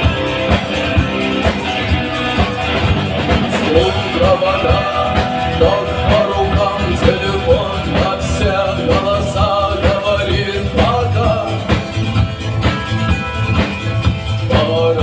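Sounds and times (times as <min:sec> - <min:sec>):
bass guitar: 0:00.0 - 0:15.0
drums: 0:00.0 - 0:15.0
guitar melody: 0:00.0 - 0:15.0.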